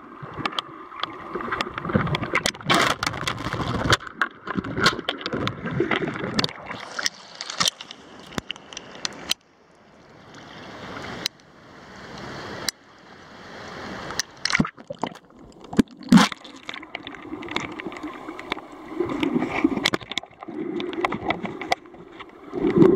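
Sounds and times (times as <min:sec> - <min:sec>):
water sloshing and gurgling: 0:00.0 - 0:12.8, 0:13.5 - 0:22.9.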